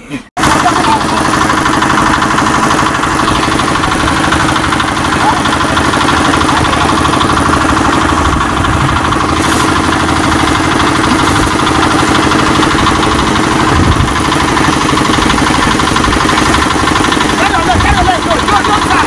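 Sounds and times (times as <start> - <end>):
small engine running with knocking: 0.4 - 19.0.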